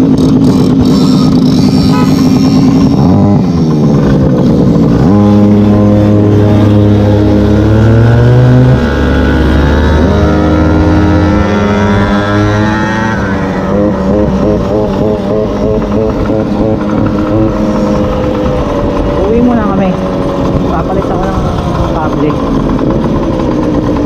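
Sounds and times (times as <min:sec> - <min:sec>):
two-stroke scooter engine revving: 0:00.0 - 0:24.0.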